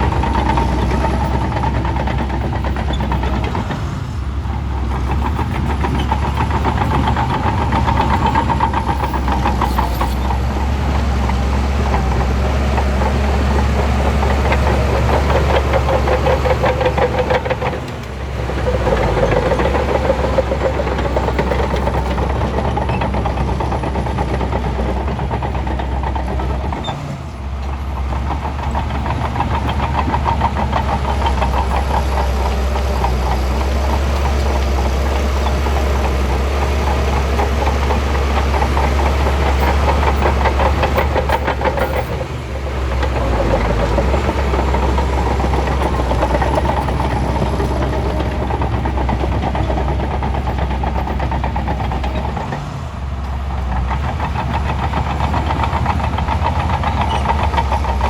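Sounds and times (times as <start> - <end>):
bulldozer diesel engine clattering: 0.0 - 58.0.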